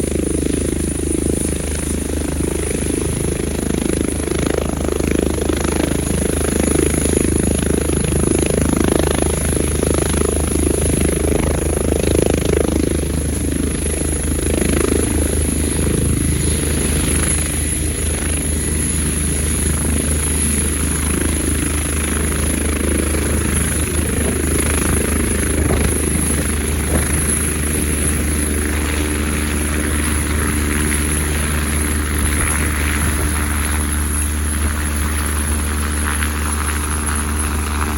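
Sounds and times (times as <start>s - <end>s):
high turbine whine: 0.0s - 37.9s
low rotor drone: 0.0s - 37.9s.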